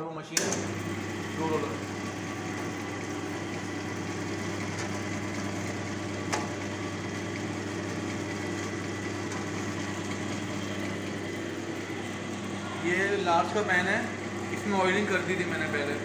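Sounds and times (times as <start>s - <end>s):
dough roller motor hum: 0.4s - 16.0s.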